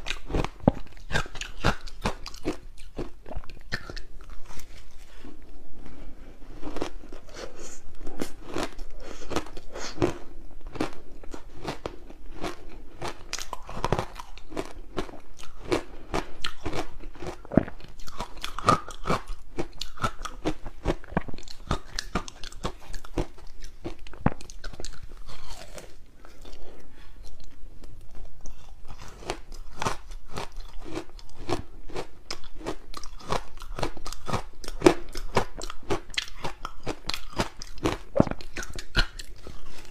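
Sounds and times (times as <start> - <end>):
chewing crunchy ice: 0.0 - 5.4, 6.5 - 27.6, 28.3 - 39.9.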